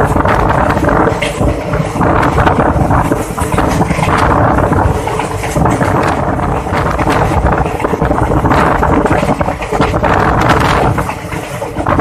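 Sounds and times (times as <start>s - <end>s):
train coach rumbling and rattling: 0.0s - 12.0s
wind buffeting microphone: 0.0s - 12.0s.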